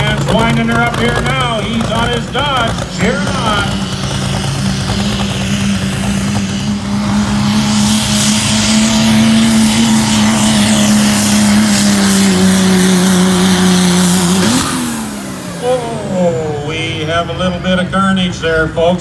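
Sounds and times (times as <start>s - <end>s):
diesel engine at full throttle: 0.0s - 19.0s.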